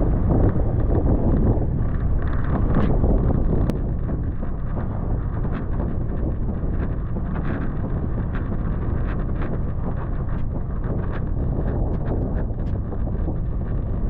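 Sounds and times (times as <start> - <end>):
vehicle engine low rumble: 0.0 - 14.0
wind buffeting microphone: 0.0 - 14.0.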